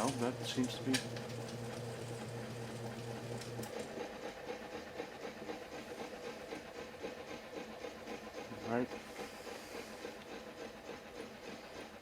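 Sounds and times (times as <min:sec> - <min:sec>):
fan whirring with light rattle: 0:00.0 - 0:12.0.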